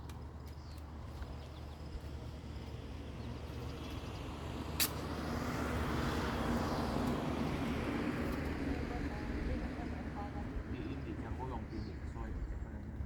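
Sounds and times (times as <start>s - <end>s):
motor vehicle rumbling: 0.0s - 13.0s.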